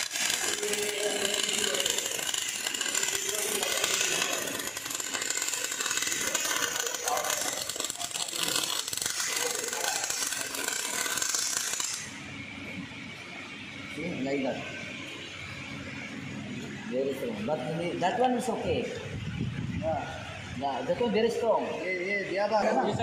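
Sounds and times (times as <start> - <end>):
welding arc crackling: 0.0 - 22.2.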